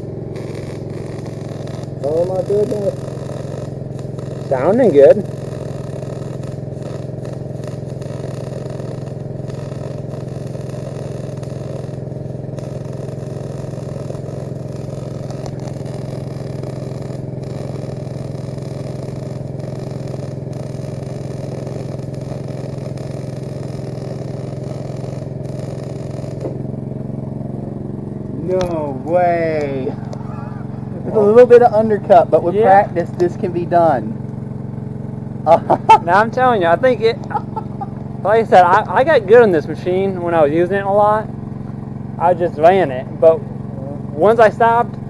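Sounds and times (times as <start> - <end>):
engine running steadily: 0.0 - 45.0
welding arc crackling: 0.0 - 45.0.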